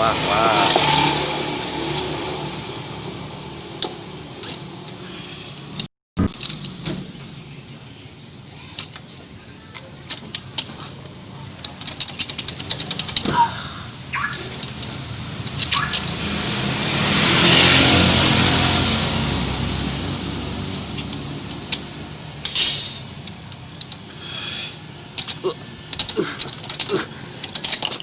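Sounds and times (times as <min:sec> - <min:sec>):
vehicle noise: 0:00.0 - 0:28.0.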